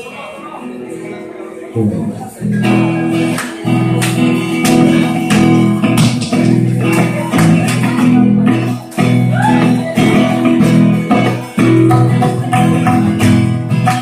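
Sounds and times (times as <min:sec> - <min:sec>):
strummed acoustic guitar: 0:00.0 - 0:14.0
live band music: 0:01.8 - 0:14.0.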